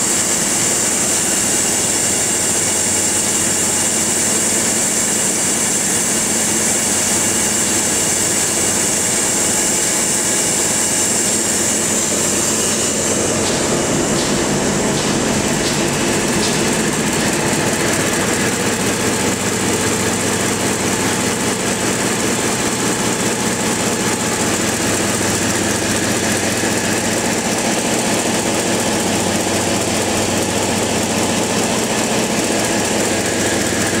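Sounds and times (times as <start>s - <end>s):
large stationary engine running: 0.0s - 34.0s.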